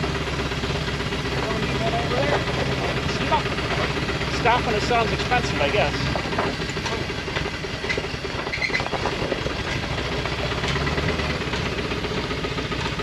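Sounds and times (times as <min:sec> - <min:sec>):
rapid engine knocking: 0:00.0 - 0:13.0
truck engine running: 0:00.0 - 0:13.0.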